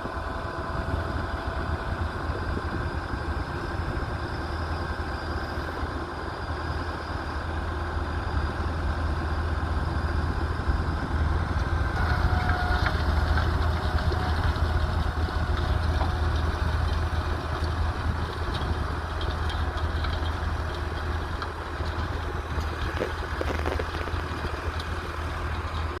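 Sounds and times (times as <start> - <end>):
tractor diesel engine humming: 0.0 - 26.0.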